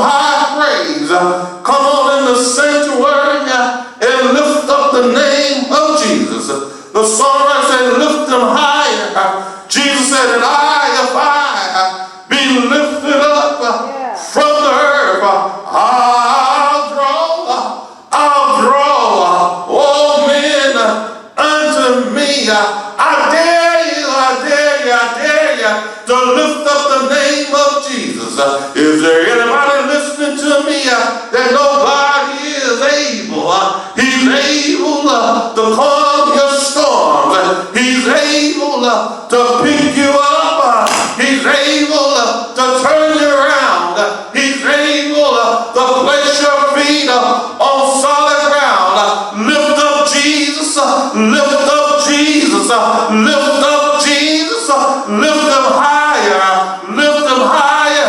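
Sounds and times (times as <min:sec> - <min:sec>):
man singing gospel: 0:00.0 - 0:58.0.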